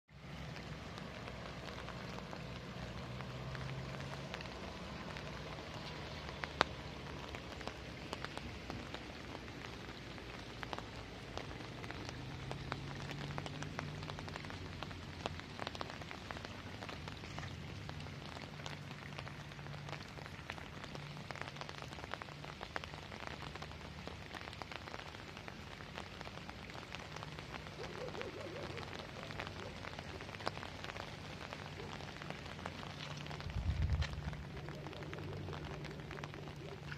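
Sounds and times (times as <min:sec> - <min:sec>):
rain pattering: 0:00.1 - 0:36.9
raindrops ticking: 0:00.1 - 0:36.9.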